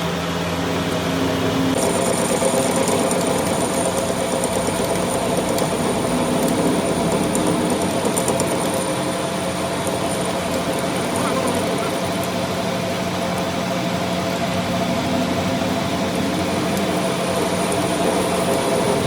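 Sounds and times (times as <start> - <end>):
machine whine and hum: 0.0 - 19.0.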